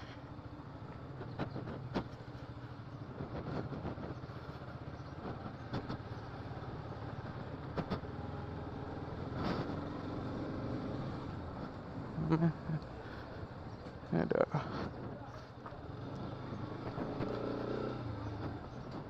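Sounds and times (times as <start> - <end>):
motorcycle engine running: 0.0 - 13.9, 14.7 - 19.0
road and wind noise: 0.0 - 19.0.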